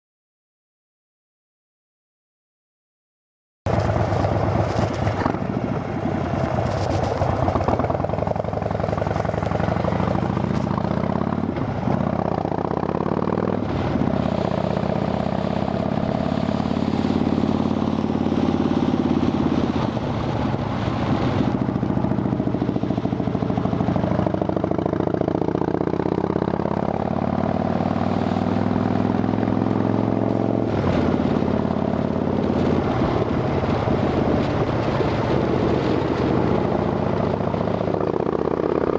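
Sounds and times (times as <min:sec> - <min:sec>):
motorcycle engine revving: 0:03.7 - 0:38.9.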